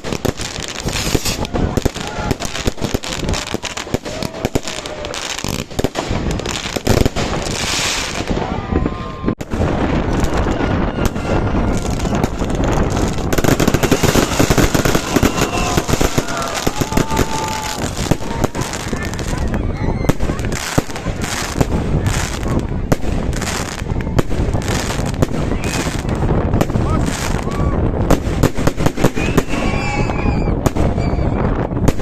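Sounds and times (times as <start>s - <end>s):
crowd voices: 0.0s - 32.0s
fireworks bangs and crackles: 0.0s - 32.0s.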